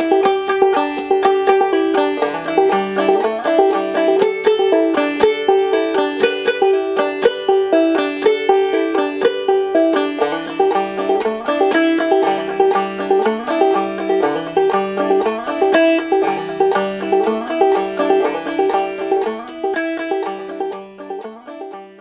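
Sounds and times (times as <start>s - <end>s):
plucked string tune: 0.0s - 22.0s.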